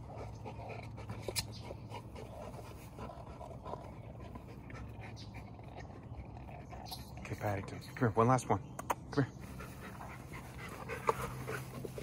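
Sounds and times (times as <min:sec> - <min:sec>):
dog panting: 0:00.0 - 0:07.8, 0:09.4 - 0:12.0.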